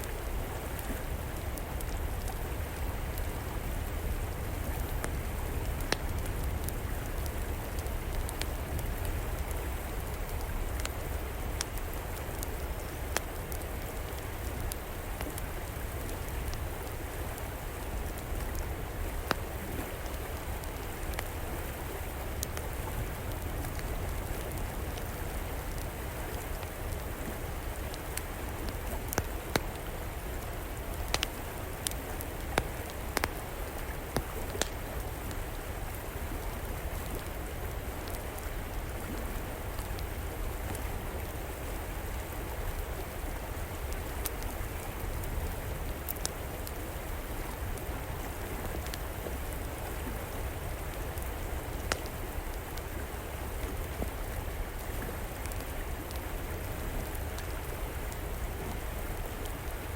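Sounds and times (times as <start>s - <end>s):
river water flowing: 0.0s - 59.9s
wood fire crackling: 0.0s - 59.9s.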